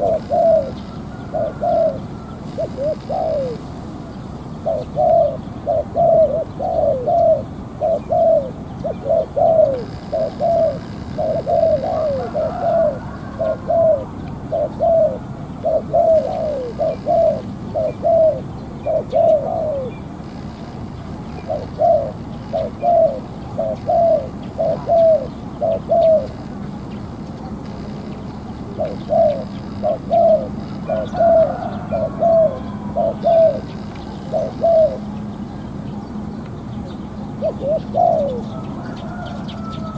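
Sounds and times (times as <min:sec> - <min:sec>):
dove cooing: 0:00.0 - 0:36.0, 0:36.8 - 0:39.9.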